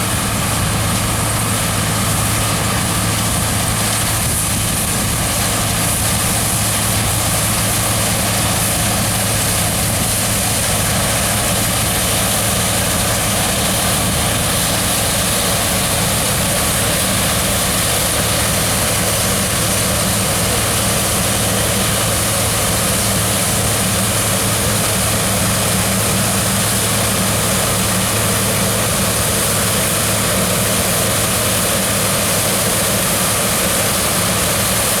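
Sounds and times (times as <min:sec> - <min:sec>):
combine harvester engine hum: 0:00.0 - 0:35.0.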